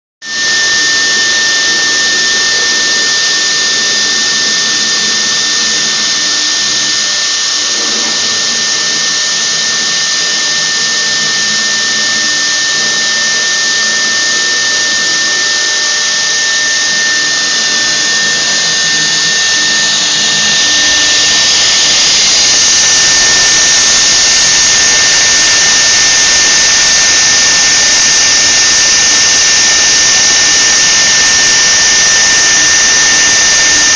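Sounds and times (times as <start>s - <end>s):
loud even hiss: 0.2s - 33.9s
machine high-pitched whine: 0.2s - 33.9s.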